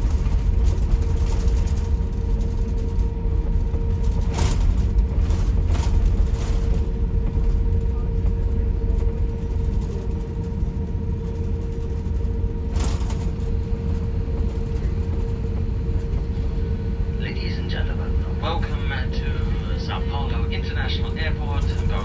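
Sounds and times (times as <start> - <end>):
airliner cabin rumble and hum: 0.0 - 22.0.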